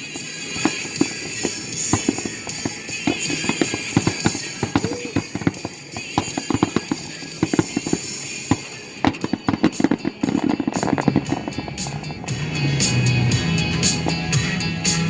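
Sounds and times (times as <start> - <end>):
fireworks crackling: 0.0 - 15.0
fireworks popping and banging: 0.0 - 15.0
music playing: 0.0 - 15.0.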